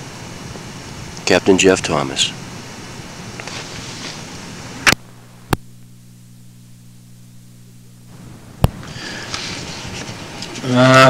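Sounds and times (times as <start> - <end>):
mains hum: 0.0 - 11.0
tape hiss: 0.0 - 11.0.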